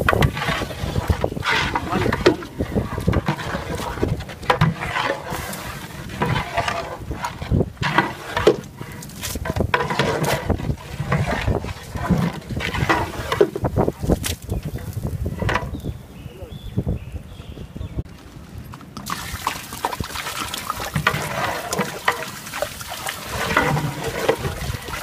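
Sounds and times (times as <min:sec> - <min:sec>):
metal spatula scraping a pot: 0:00.0 - 0:15.8, 0:20.5 - 0:25.0.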